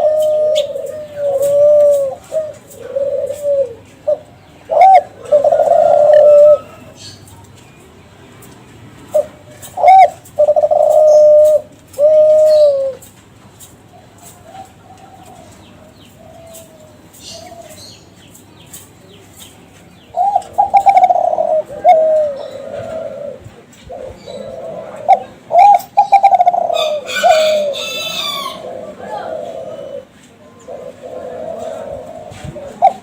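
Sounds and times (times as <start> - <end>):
doves cooing: 0.0 - 7.6, 9.0 - 33.0.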